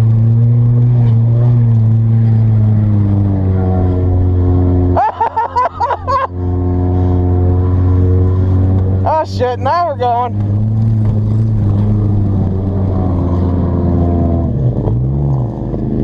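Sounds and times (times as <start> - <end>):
car engine running under load: 0.0 - 16.0.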